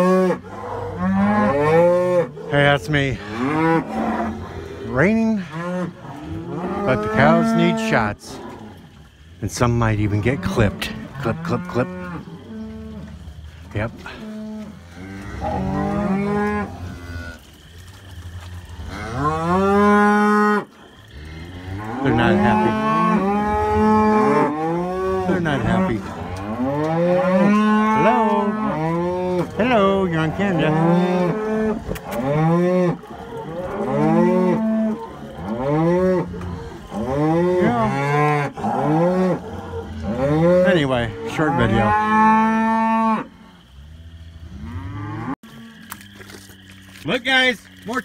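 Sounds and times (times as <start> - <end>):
cows mooing: 0.0 - 47.0.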